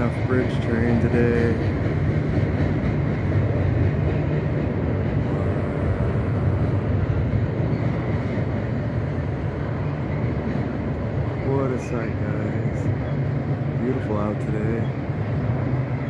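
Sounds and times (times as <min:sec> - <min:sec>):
freight train rumbling over bridge: 0:00.0 - 0:16.0.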